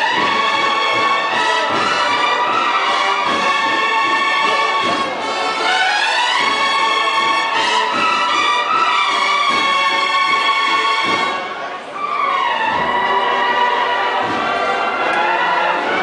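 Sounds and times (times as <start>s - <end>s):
brass band playing slow march: 0.0s - 16.0s.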